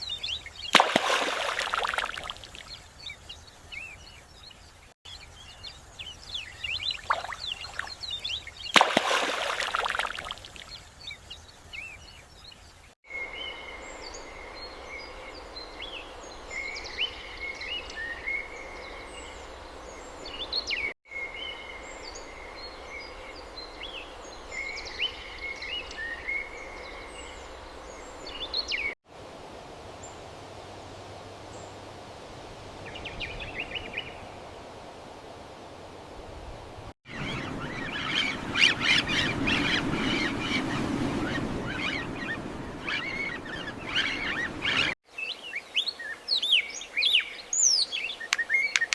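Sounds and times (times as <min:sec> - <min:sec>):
small birds chirping: 0:00.0 - 0:29.0, 0:37.1 - 0:48.9.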